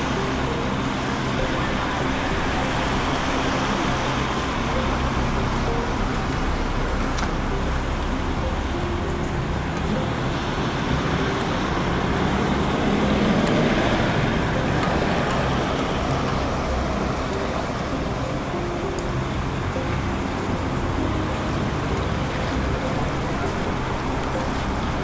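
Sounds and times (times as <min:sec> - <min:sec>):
street traffic: 0:00.0 - 0:25.0
tyres hissing on wet road: 0:00.0 - 0:25.0.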